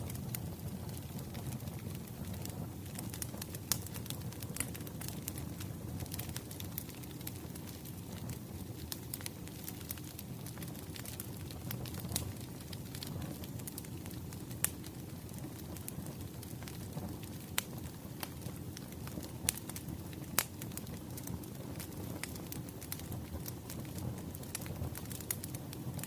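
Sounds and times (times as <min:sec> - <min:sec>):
firewood crackling and popping: 0:00.0 - 0:26.0.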